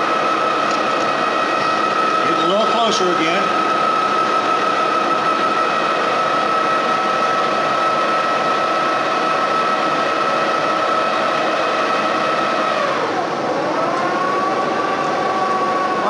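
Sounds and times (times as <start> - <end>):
metal lathe whine: 0.0 - 16.0.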